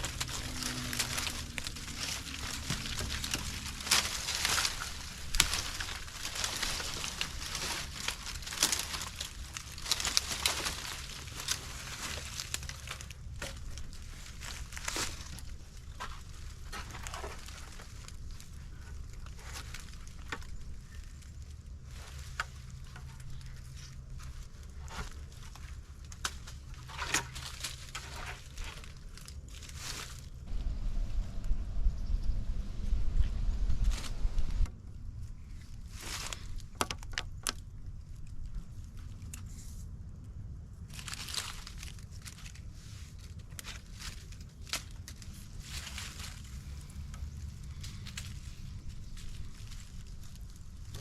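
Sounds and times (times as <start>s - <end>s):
low rumble: 0.0s - 36.7s, 37.6s - 51.0s
rustling: 0.0s - 51.0s.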